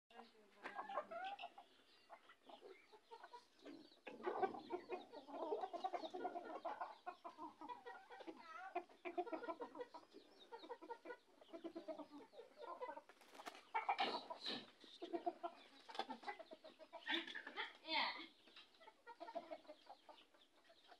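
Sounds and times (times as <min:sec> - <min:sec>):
chickens clucking: 0:00.1 - 0:20.9.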